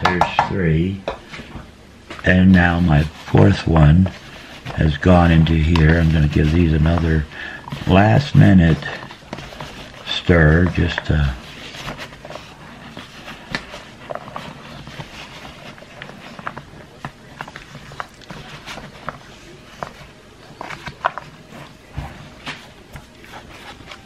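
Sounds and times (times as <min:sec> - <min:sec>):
spoon scraping plastic bowl: 0:02.5 - 0:24.0.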